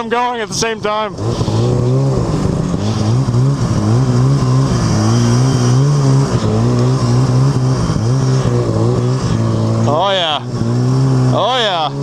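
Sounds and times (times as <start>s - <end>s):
snowmobile engine under load: 0.0s - 12.0s.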